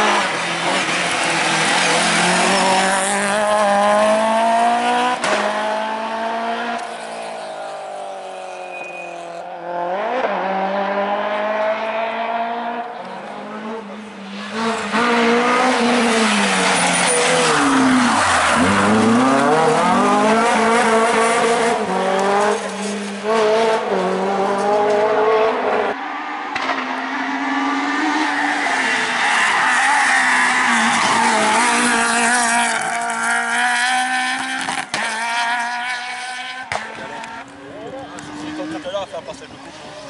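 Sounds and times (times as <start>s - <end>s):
car accelerating hard: 0.0s - 40.0s
rally car engines revving: 0.0s - 40.0s.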